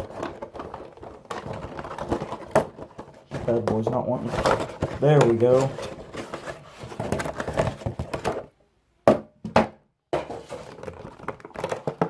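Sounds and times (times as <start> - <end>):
packaging rustling: 0.0 - 8.5, 10.4 - 12.0.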